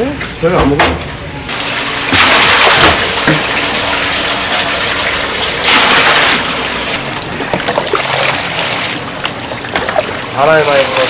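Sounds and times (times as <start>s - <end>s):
water gushing: 1.5s - 11.0s
water running and splashing: 1.5s - 11.0s.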